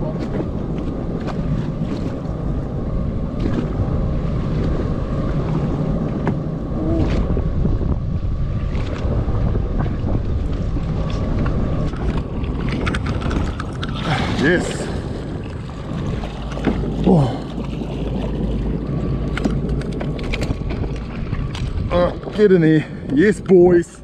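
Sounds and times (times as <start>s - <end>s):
water slapping against hull: 0.0s - 23.6s
wind buffeting microphone: 0.0s - 24.0s.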